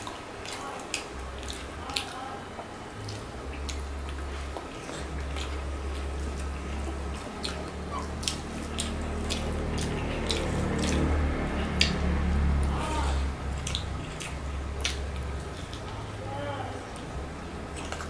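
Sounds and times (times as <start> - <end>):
fingers squishing wet food: 0.0 - 18.0.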